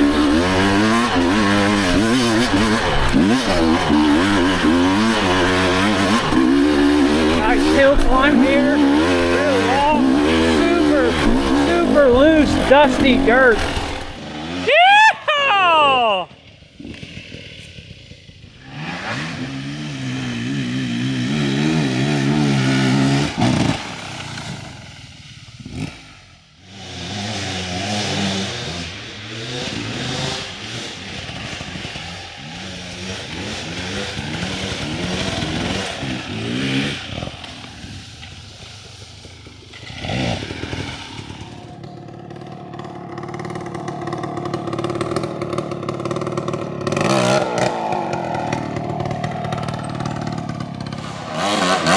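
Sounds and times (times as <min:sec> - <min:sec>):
dirt bike engine revving: 0:00.0 - 0:25.0, 0:25.6 - 0:51.9.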